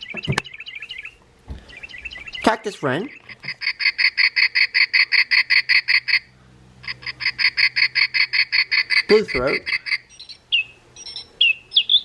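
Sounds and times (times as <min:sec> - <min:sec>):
recorded bird song from toy: 0:00.0 - 0:12.0.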